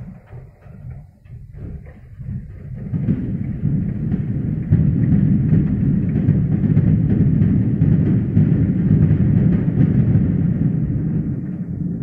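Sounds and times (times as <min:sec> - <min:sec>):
fireworks booming: 0:00.0 - 0:12.0
fireworks crackling: 0:00.0 - 0:12.0.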